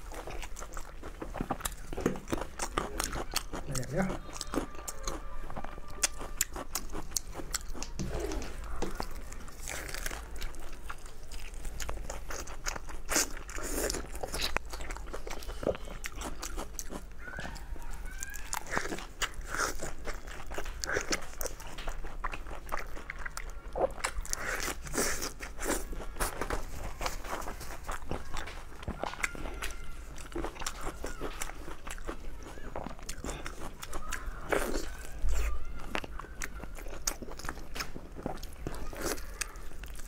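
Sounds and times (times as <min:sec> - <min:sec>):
lettuce crunching while chewing: 0:00.0 - 0:40.0.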